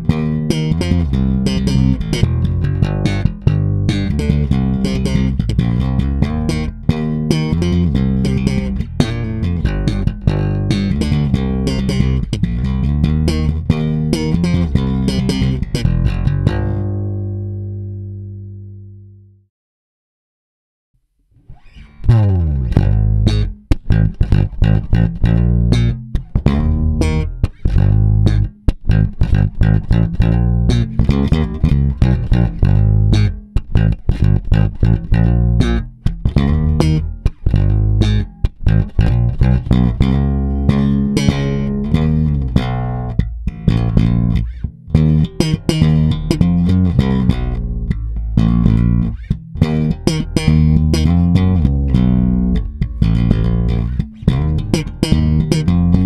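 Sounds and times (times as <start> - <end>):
electric bass plucked notes: 0.0 - 19.5, 21.4 - 56.0.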